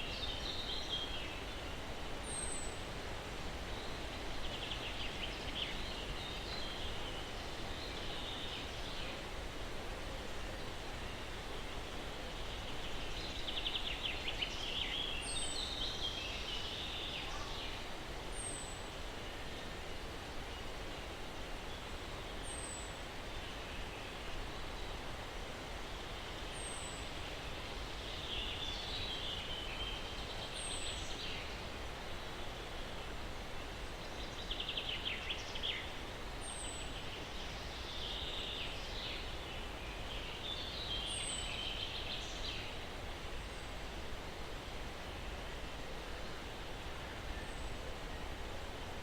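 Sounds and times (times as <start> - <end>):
breeze through trees: 0.0 - 49.0.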